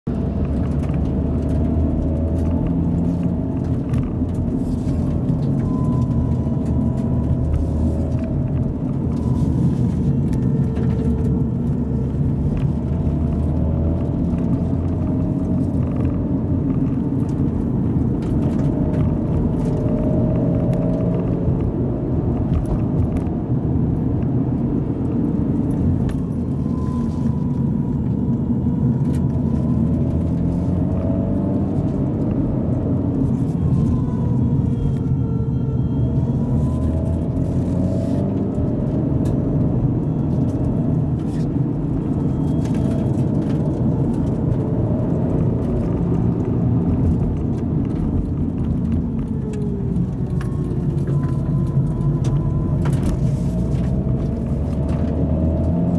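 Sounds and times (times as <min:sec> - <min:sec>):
car engine and road rumble: 0:00.0 - 0:55.9
power steering pump whining: 0:00.0 - 0:55.9.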